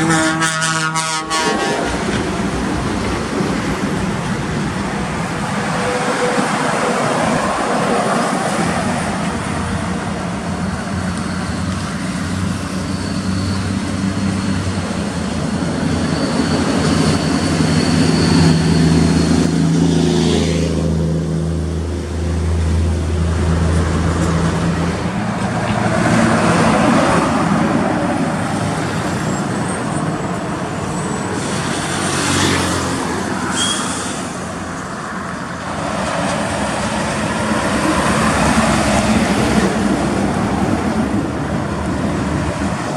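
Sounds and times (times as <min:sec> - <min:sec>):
road and traffic noise: 0:00.0 - 0:42.9.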